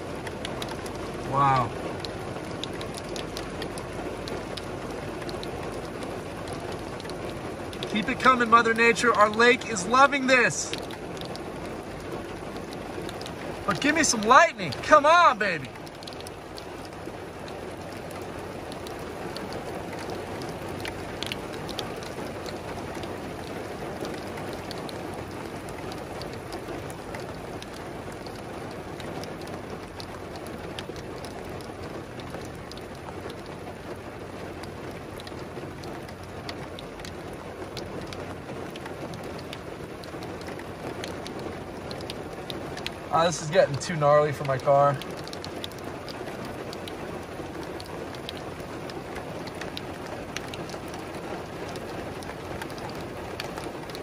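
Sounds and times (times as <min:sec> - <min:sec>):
rain falling steadily: 0:00.0 - 0:54.0
raindrops hitting a car: 0:00.0 - 0:54.0.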